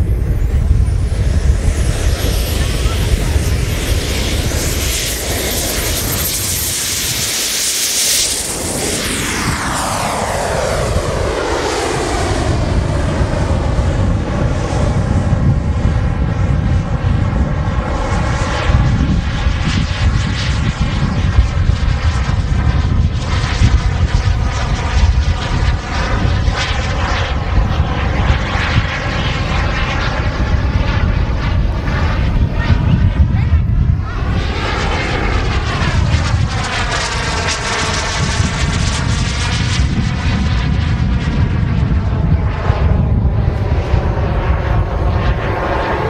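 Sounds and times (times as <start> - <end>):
model jet turbine whine: 0.0 - 46.0.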